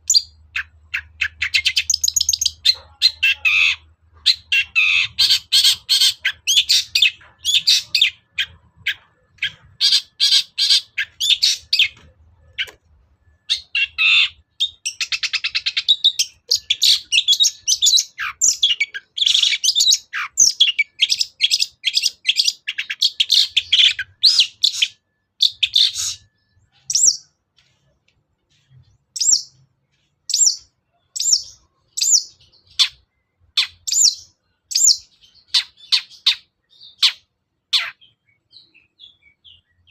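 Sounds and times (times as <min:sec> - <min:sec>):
bird song scratchy chattering: 0:00.0 - 0:27.8, 0:28.5 - 0:39.9.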